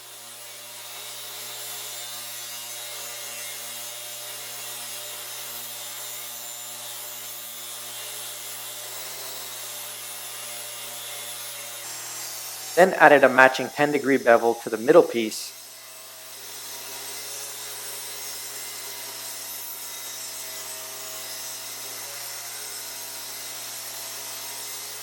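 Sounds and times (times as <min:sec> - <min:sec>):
table saw cutting wood: 0:00.0 - 0:25.0.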